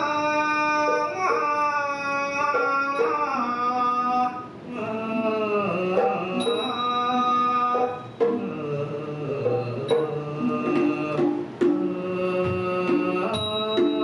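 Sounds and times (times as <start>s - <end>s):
person singing long gliding notes: 0.0s - 14.0s.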